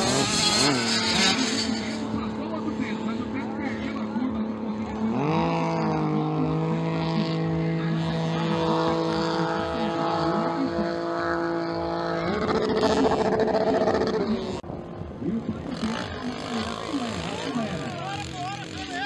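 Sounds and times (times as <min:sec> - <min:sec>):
faint mini bike engines buzzing: 0:00.0 - 0:19.0
motocross bike engine revving: 0:00.0 - 0:19.0.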